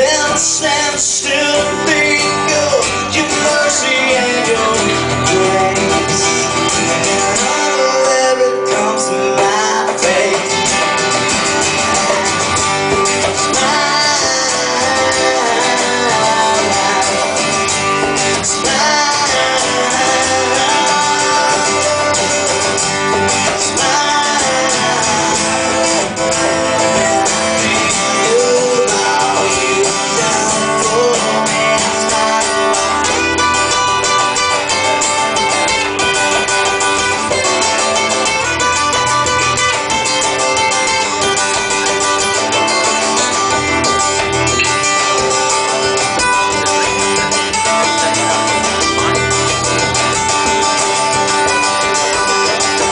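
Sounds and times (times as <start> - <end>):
guitar: 0.0 - 52.9
live country band playing: 0.0 - 52.9.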